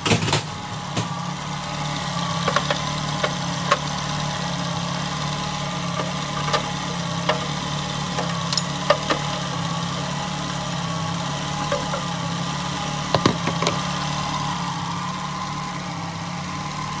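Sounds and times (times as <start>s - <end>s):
car engine idling: 0.8s - 17.0s.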